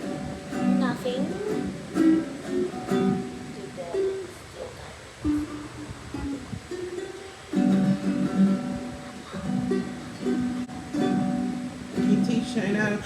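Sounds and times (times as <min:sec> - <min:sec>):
ukulele plucked and strummed: 0:00.0 - 0:13.0.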